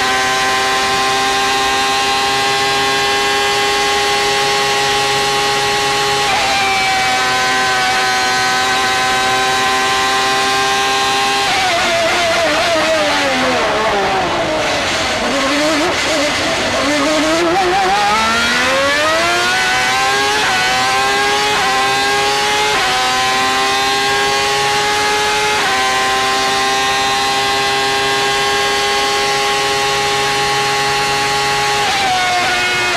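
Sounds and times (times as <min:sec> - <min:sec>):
racing car engine revving: 0:00.0 - 0:32.9.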